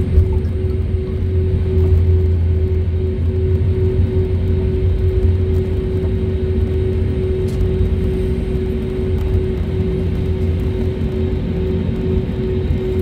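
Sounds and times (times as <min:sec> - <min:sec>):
airliner cabin rumble: 0:00.0 - 0:13.0
jet engine hum: 0:00.0 - 0:13.0.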